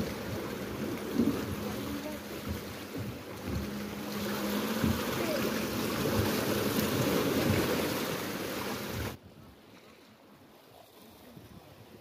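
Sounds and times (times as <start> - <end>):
wind buffeting microphone: 0.0 - 9.6
sea surf: 0.0 - 12.0.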